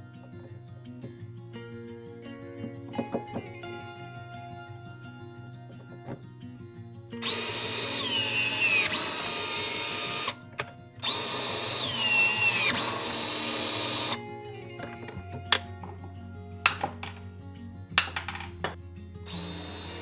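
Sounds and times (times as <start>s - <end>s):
background music: 0.0s - 20.0s
power drill whining: 2.1s - 17.2s, 18.0s - 20.0s.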